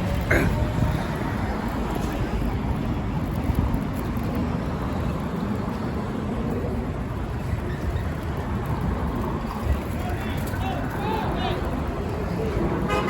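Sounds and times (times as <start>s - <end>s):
street noise with low rumble: 0.0s - 13.0s.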